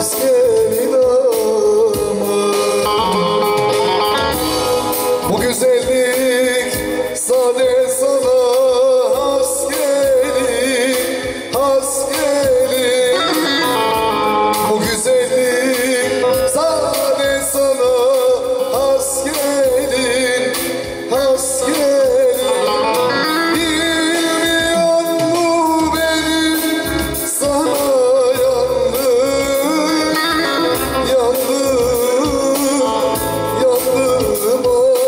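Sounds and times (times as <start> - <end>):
man singing: 0.0 - 35.0.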